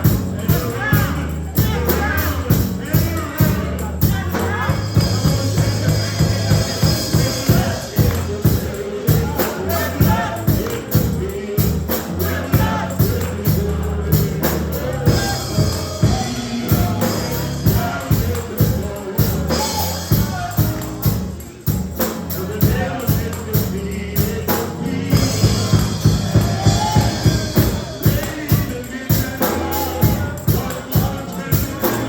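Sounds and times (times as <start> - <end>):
up-tempo gospel band music: 0.0 - 32.0
voices singing: 0.0 - 32.0.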